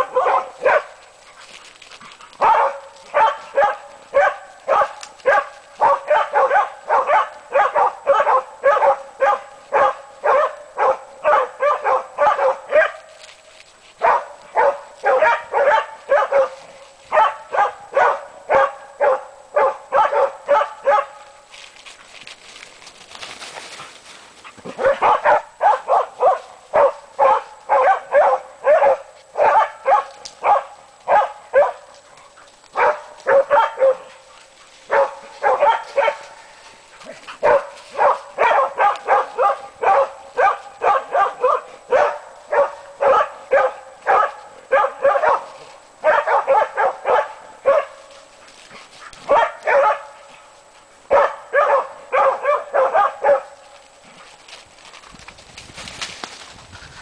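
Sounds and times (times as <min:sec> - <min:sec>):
dogs barking: 0:00.0 - 0:01.0, 0:02.3 - 0:13.1, 0:14.0 - 0:21.2, 0:24.7 - 0:48.3, 0:49.1 - 0:50.4, 0:51.1 - 0:53.6.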